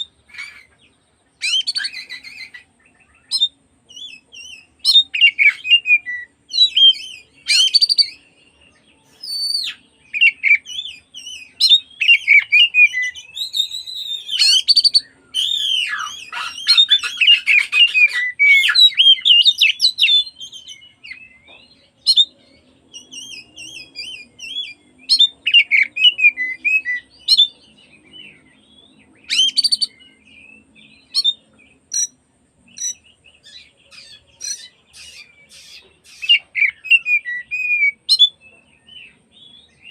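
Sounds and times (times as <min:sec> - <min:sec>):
bird singing whistled phrases: 0:01.4 - 0:08.3, 0:09.0 - 0:21.4, 0:22.0 - 0:28.4, 0:29.2 - 0:38.4.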